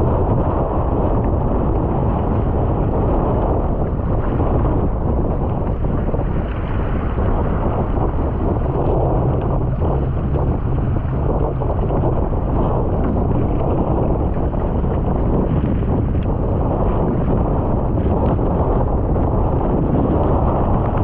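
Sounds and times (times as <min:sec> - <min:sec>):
water rushing past hull: 0:00.0 - 0:21.0
wind buffeting microphone: 0:00.0 - 0:21.0.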